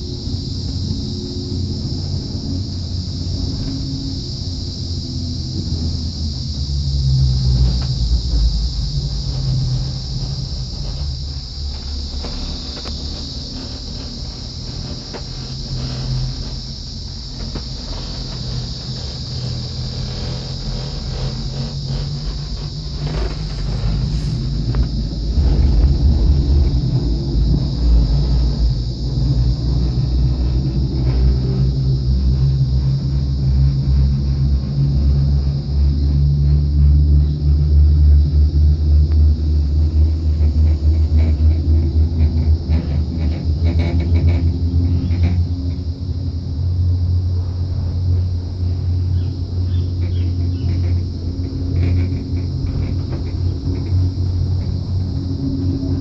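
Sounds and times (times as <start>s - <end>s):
gondola cabin rumbling on cable: 0.0s - 56.0s
insects droning: 0.0s - 56.0s.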